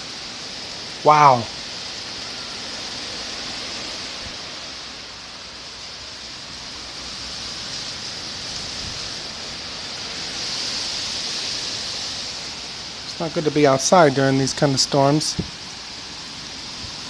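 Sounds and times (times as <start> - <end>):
wind and rain rushing: 0.0 - 17.0.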